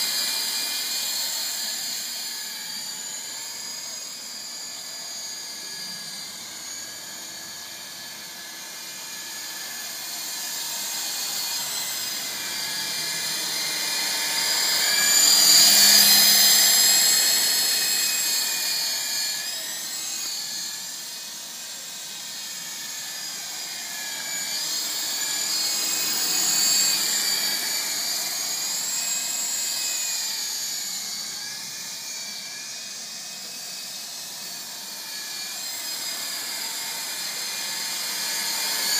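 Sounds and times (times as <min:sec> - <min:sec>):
toy helicopter rotors whining: 0:00.0 - 0:38.9.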